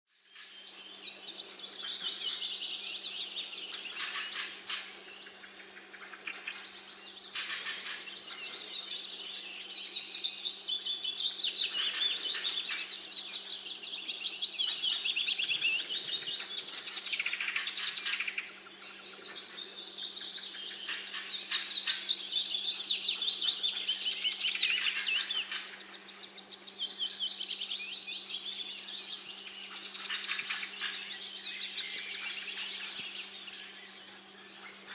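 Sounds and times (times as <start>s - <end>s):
songbirds twittering and trilling: 0.1s - 34.9s.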